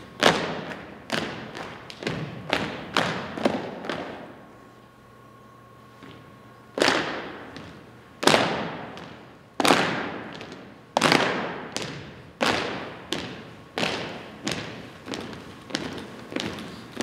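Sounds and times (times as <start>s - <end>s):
boots stomping on gym floor: 0.2s - 4.2s, 6.8s - 17.0s.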